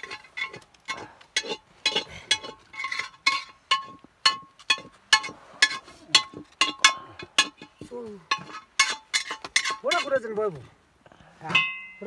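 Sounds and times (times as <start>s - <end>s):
metal spoon clinking on pot: 0.0s - 10.1s.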